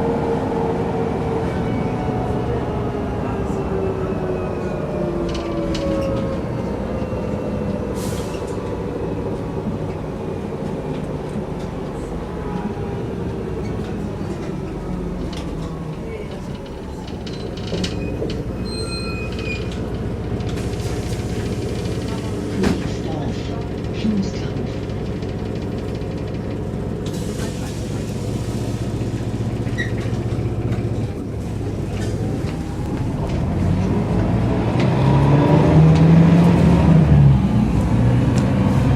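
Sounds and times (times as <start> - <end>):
bus diesel engine drone: 0.0 - 38.9.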